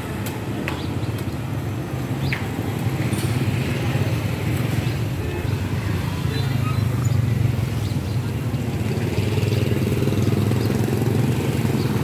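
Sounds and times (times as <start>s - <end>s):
motorbike engines humming: 0.0s - 12.0s
road noise: 0.0s - 12.0s.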